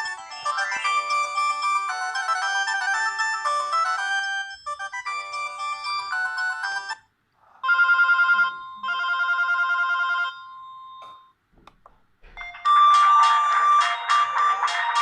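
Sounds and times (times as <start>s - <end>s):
beeping ringtone melody: 0.0s - 11.0s, 12.4s - 15.0s
pulsing ringtone: 0.0s - 11.0s, 12.4s - 15.0s.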